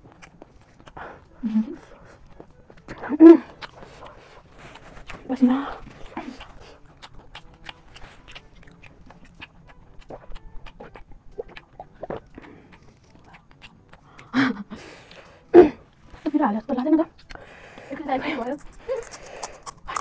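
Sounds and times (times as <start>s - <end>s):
crunchy chewing: 0.0s - 16.3s, 17.2s - 20.0s.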